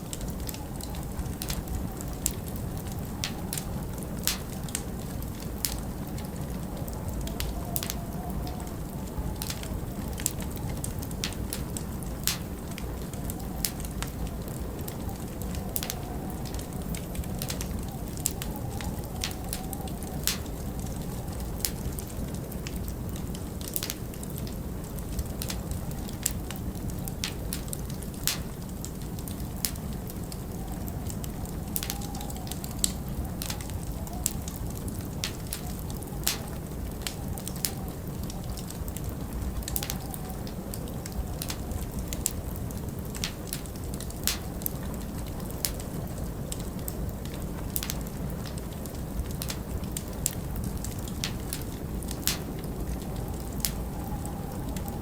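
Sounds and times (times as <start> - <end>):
log fire crackling: 0.0 - 55.0
sharp pops of fire: 0.0 - 55.0
wind rushing and whistling: 0.0 - 55.0.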